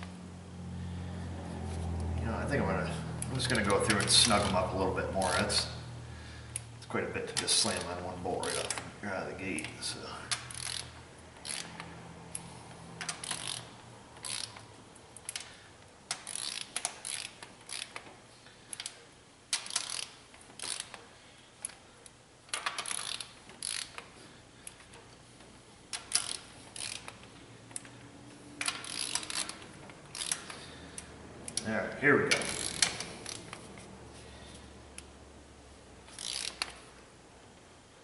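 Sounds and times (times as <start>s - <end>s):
hand ratchet clicking: 3.1s - 5.7s, 7.3s - 8.9s, 9.5s - 35.1s, 36.0s - 37.0s.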